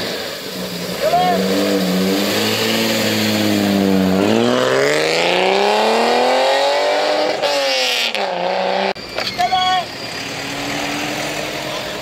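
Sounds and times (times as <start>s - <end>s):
car engine accelerating: 0.0s - 9.0s, 9.9s - 12.0s.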